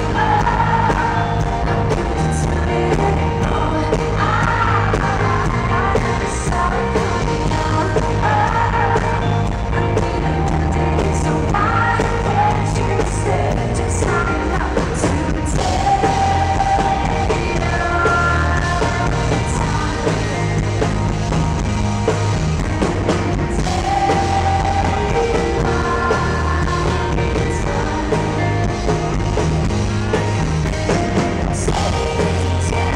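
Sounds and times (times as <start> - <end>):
woman singing: 0.0 - 20.8, 23.5 - 29.0, 31.6 - 32.9
live rock band: 0.0 - 32.9.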